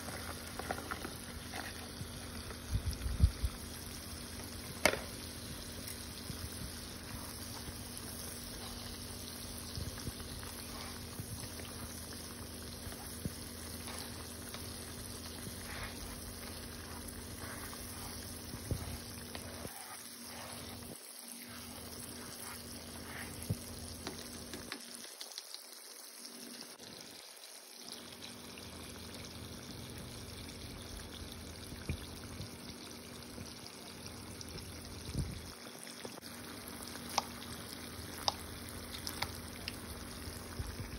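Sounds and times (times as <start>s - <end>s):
sauce bubbling and sizzling: 0.0s - 40.9s.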